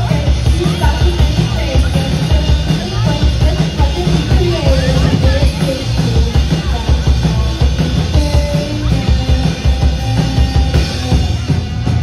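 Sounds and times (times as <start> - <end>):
drum kit: 0.0 - 12.0
electric bass: 0.0 - 12.0
electric guitar: 0.0 - 12.0.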